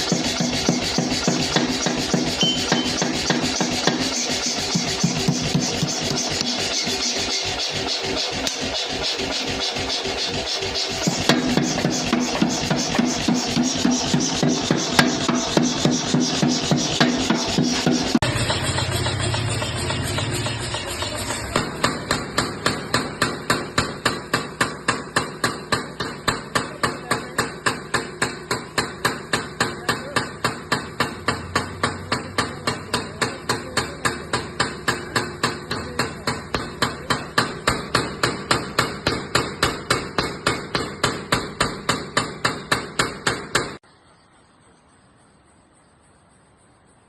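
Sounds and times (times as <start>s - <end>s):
power hammer striking: 0.0s - 43.8s.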